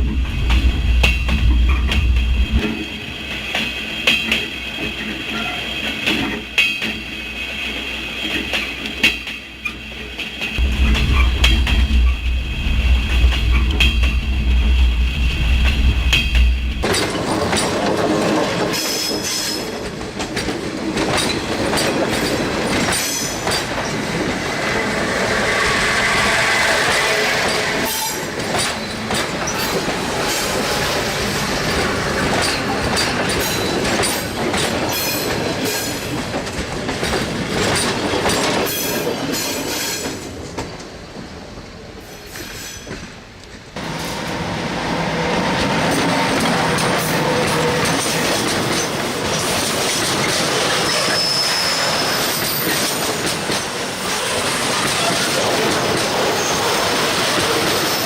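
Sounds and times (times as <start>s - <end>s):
wheels clicking on rails: 0.0s - 26.1s, 26.7s - 40.9s, 45.6s - 58.0s
train rail noise: 0.0s - 58.0s.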